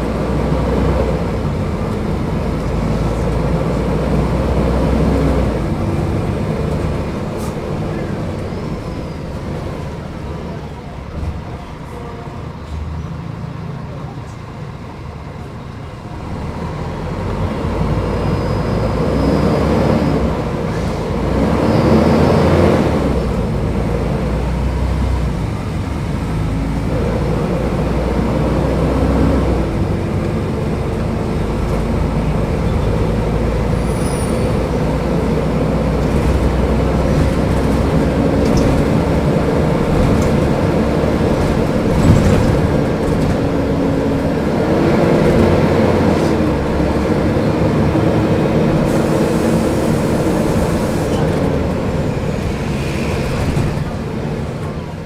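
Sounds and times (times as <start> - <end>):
bus diesel engine pulling away: 0.0 - 55.0.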